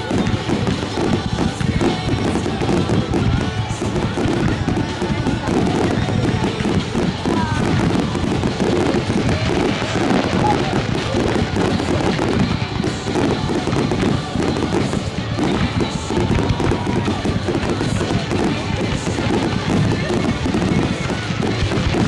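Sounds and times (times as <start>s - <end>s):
fireworks bangs and crackle: 0.0s - 22.0s.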